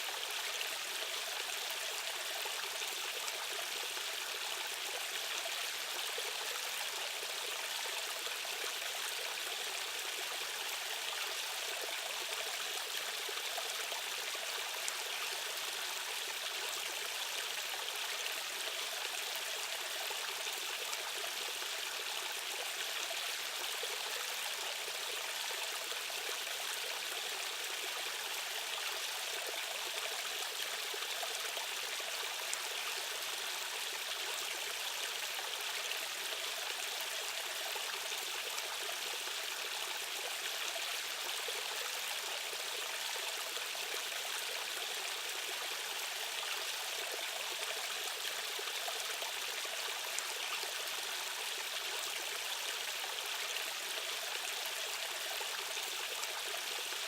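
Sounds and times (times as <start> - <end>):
stream water flowing over rocks: 0.0 - 57.0.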